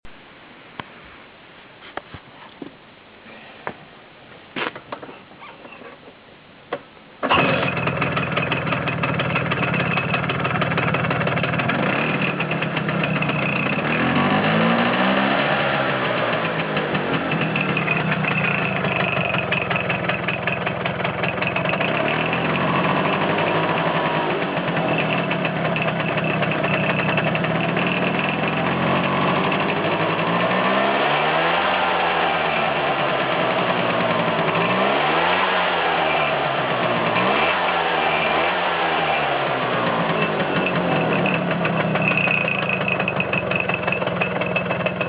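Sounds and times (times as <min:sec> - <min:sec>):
engine throttle blips: 0:07.2 - 0:45.0
scooter engine idling: 0:07.2 - 0:45.0.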